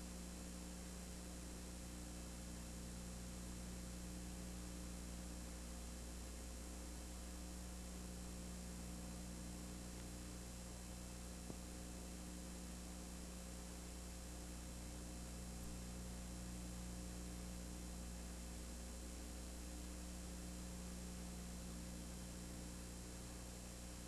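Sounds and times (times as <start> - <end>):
electrical hum with hiss: 0.0 - 24.0.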